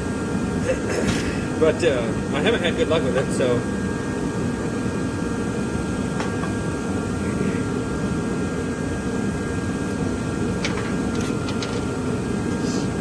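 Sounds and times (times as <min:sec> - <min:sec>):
steady fan noise: 0:00.0 - 0:13.0.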